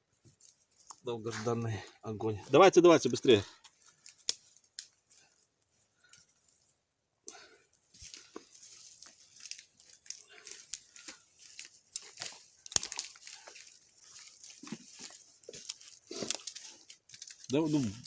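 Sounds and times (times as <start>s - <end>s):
dry grass and twigs rustling: 0.0s - 18.0s.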